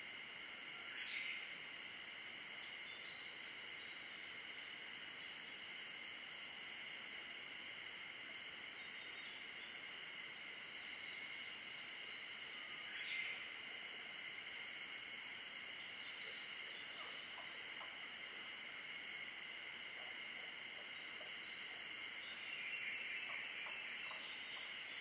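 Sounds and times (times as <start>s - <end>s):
faint bird song: 0.0s - 25.0s.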